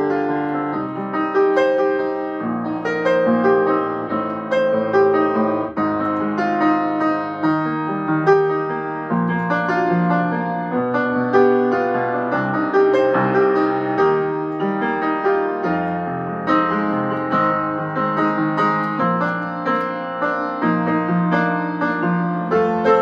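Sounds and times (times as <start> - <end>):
upright piano playing: 0.0 - 23.0.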